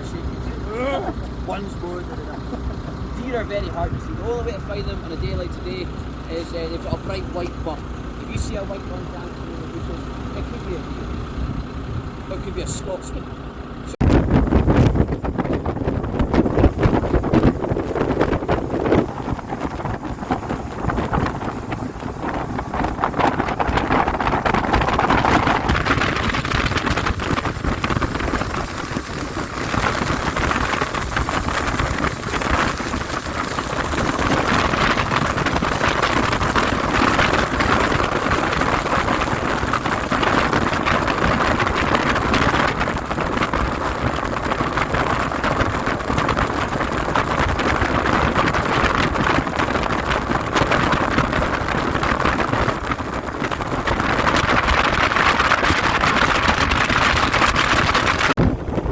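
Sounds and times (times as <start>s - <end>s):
speedboat engine and water rush: 0.0s - 58.9s.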